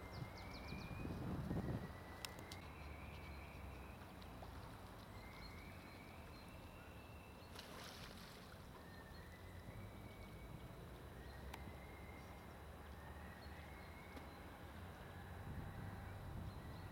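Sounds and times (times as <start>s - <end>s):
faint outdoor rumble: 0.0s - 16.9s.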